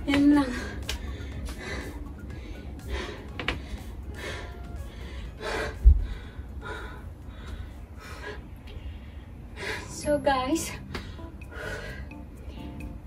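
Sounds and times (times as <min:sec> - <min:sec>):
woman breathing hard: 0:00.4 - 0:10.0, 0:10.8 - 0:12.7.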